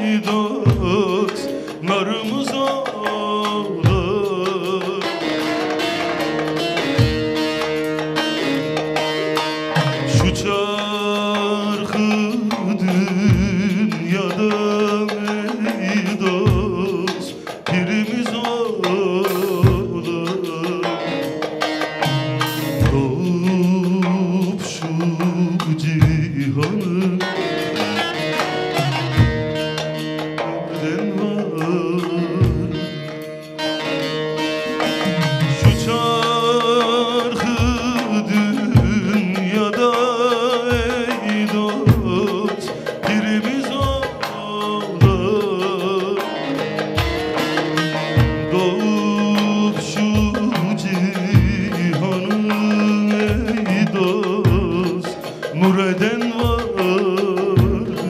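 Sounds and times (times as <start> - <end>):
man singing with vibrato: 0.0 - 58.0
plucked long-necked lute: 0.0 - 58.0.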